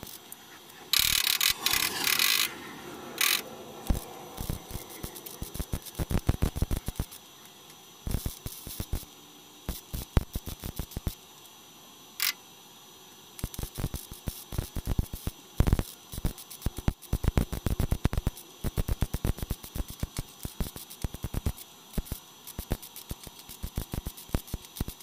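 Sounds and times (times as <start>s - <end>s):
welding arc crackling: 0.0s - 11.5s, 13.3s - 25.0s.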